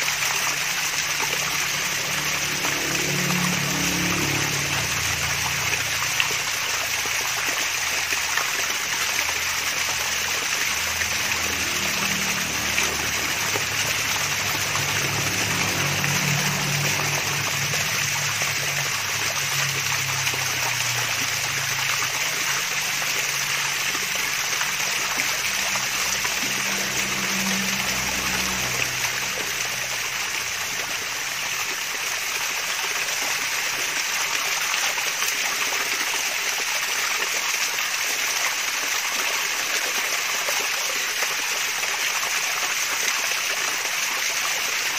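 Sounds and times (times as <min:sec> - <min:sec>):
waterfall trickling and splashing: 0:00.0 - 0:44.9.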